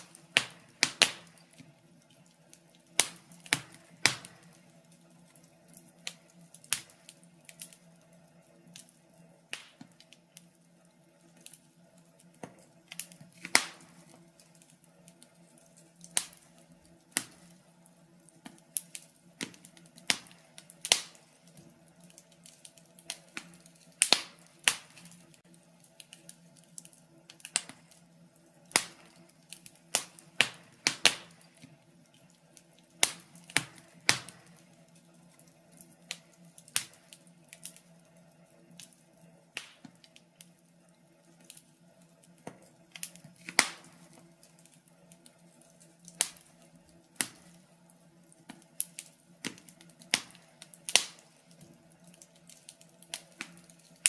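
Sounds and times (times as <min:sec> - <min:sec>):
faint steady hum: 0:00.0 - 0:54.0
wood fire crackling: 0:00.0 - 0:54.0.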